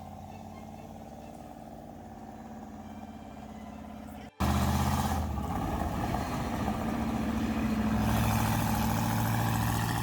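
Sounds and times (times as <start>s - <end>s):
truck engine deep rumble: 0.0s - 10.0s.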